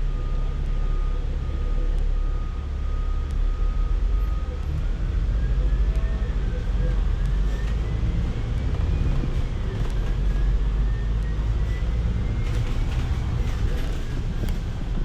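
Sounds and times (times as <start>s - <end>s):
bus engine rumble: 0.0s - 15.0s
road noise: 0.0s - 15.0s.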